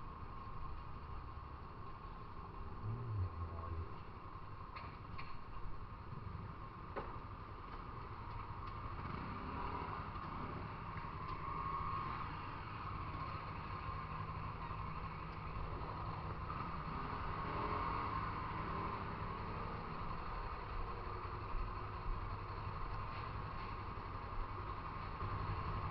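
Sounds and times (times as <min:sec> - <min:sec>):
motorcycle running: 0:00.0 - 0:25.9.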